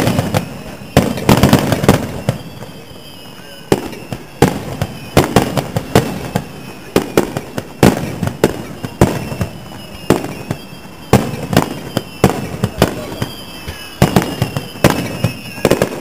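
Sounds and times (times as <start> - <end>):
fireworks launching and bursting: 0.0 - 16.0.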